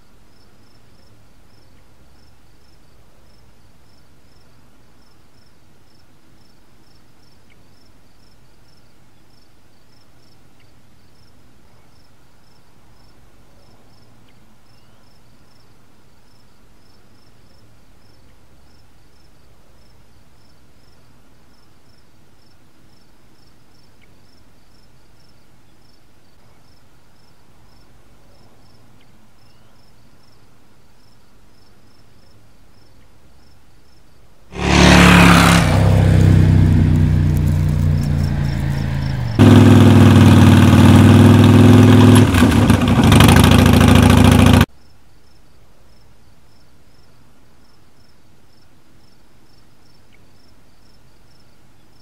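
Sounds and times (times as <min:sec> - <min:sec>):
crickets chirping: 0:00.0 - 0:34.5, 0:36.6 - 0:40.1, 0:44.6 - 0:52.0.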